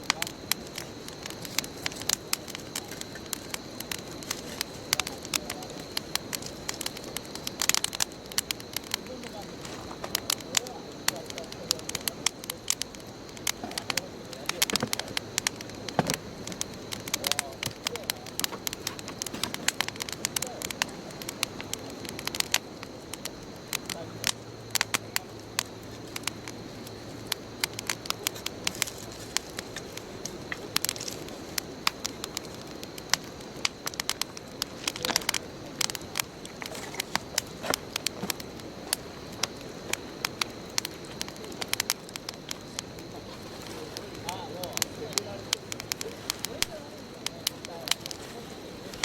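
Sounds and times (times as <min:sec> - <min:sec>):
bonfire crackling and popping: 0:00.0 - 0:49.0
soft fire hiss: 0:00.0 - 0:49.0.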